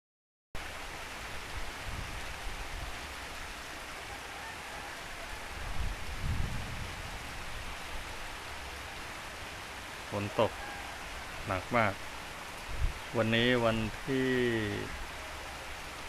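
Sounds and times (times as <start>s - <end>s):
heavy rain hissing: 0.6s - 16.0s.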